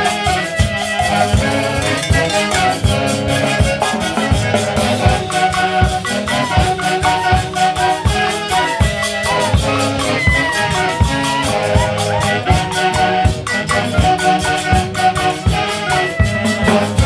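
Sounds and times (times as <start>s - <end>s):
percussion beat with shakers: 0.0s - 17.0s
melody with pitch slides: 0.6s - 17.0s.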